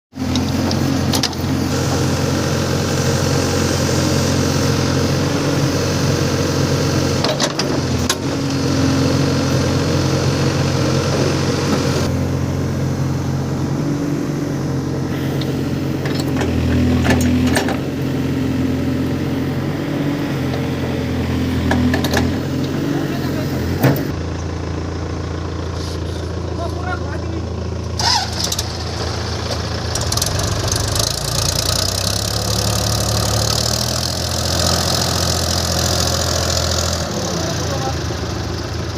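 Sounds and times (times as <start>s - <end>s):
heavy diesel engine working: 0.1s - 38.9s.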